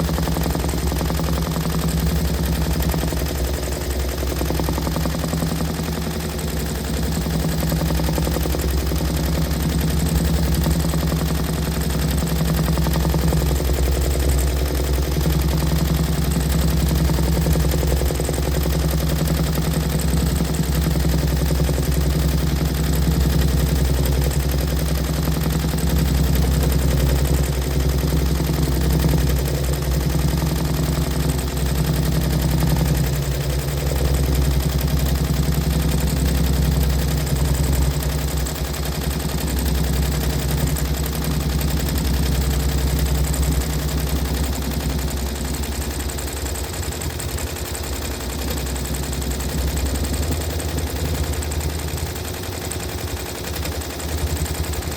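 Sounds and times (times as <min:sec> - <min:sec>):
embroidery machine stitching: 0:00.0 - 0:54.9.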